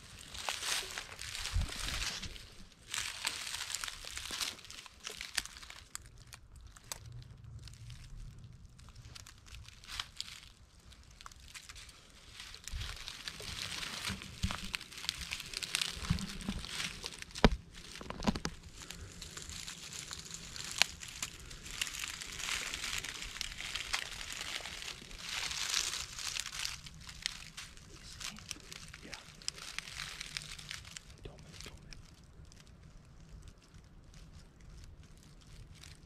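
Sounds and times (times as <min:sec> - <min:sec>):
footsteps through dry leaves: 0:00.0 - 0:06.2, 0:08.8 - 0:36.0.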